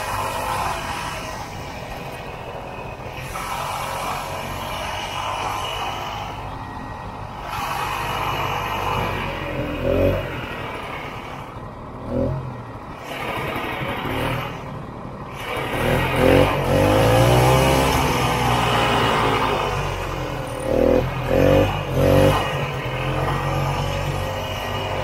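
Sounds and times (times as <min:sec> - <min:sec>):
snowmobile engine revving: 0:00.0 - 0:06.7, 0:07.3 - 0:25.0.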